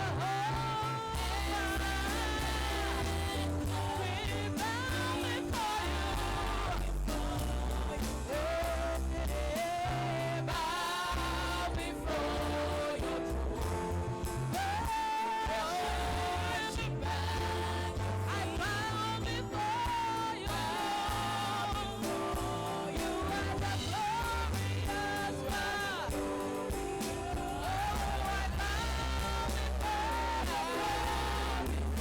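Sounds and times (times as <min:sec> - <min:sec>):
deep bass line: 0:00.0 - 0:32.0.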